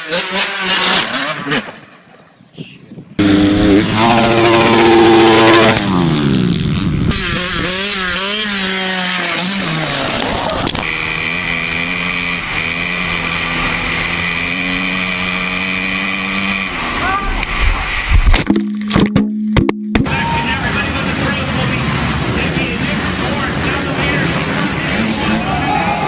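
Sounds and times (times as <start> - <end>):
dirt bike engines revving: 0.0 - 1.8, 3.2 - 18.1, 20.0 - 26.0.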